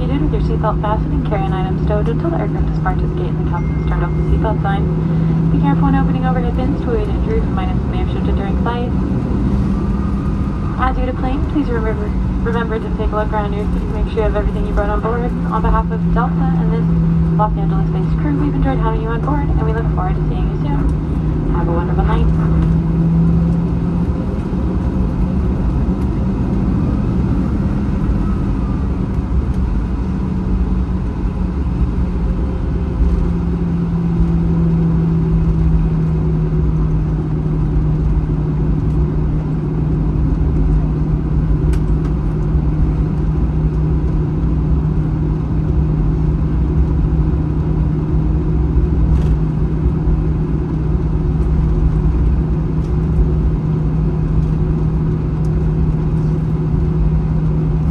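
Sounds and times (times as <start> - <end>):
jet engines idling: 0.0 - 57.9
low rumble: 0.0 - 57.9.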